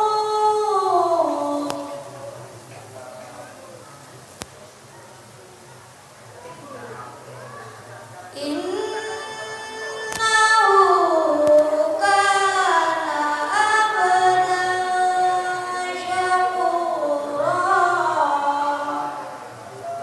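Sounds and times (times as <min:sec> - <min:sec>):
boy chanting recitation: 0:00.0 - 0:04.1, 0:06.3 - 0:20.0.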